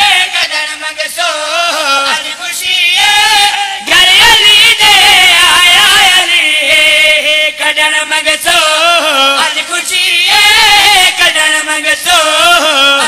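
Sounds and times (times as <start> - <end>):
men singing into microphones: 0.0 - 13.0.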